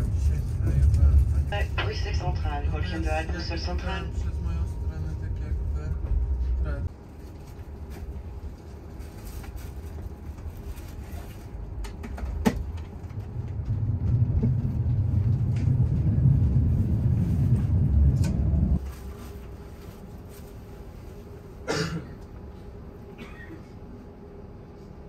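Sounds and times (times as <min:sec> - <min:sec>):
train rumbling from inside coach: 0:00.0 - 0:25.0.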